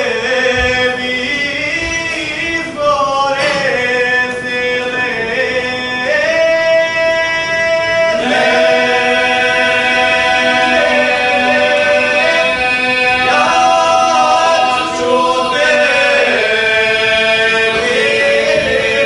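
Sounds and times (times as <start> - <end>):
male choir singing a cappella: 0.0 - 19.0.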